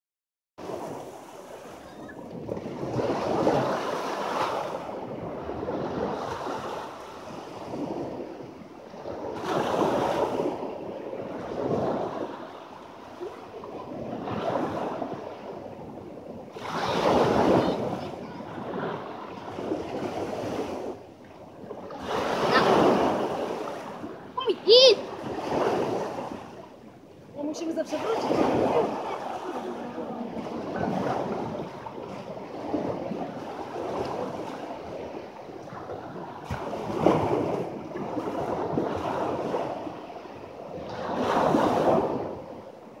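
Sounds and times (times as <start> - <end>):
sea waves breaking on shore: 0.6 - 43.0.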